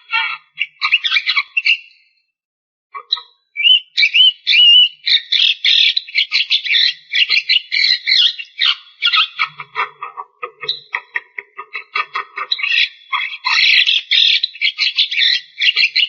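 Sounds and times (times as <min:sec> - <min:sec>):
bird whistling and chattering: 0:00.0 - 0:02.1, 0:03.0 - 0:16.0.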